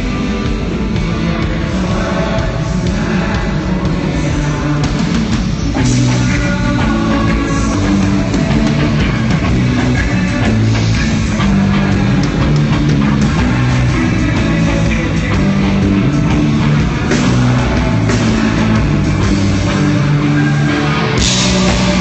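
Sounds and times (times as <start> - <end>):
bass guitar: 0.0 - 22.0
electric guitar: 0.0 - 22.0
live rock band playing: 0.0 - 22.0.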